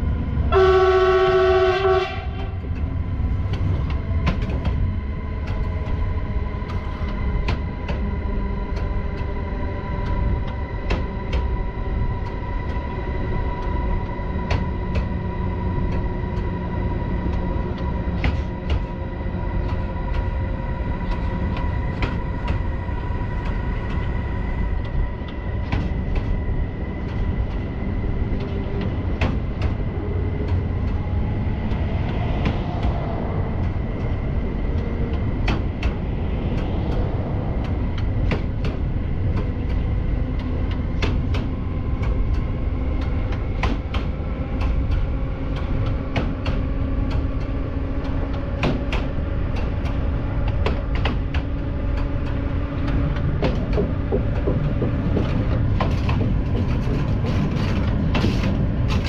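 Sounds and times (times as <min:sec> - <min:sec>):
electric locomotive running: 0:00.0 - 0:59.0
wheels clicking on rails: 0:02.0 - 0:59.0.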